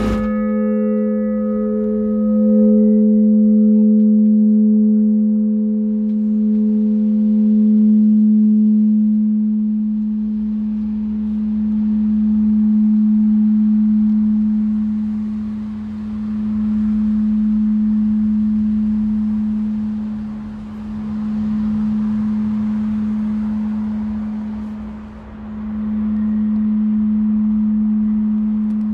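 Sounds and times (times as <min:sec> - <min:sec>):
church bell humming: 0:00.0 - 0:28.9
low rumble: 0:00.0 - 0:28.9.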